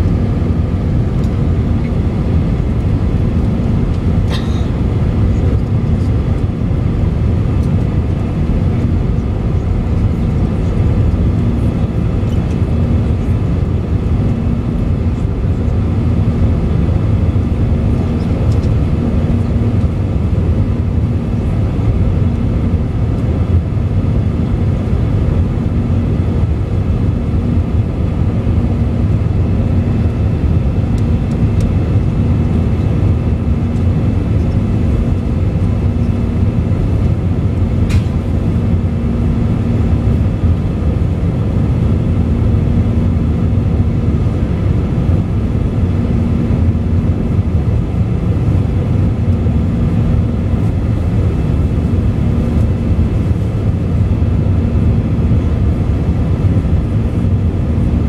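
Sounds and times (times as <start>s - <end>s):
airliner cabin engine drone: 0.0s - 58.0s
low hum: 0.0s - 58.0s.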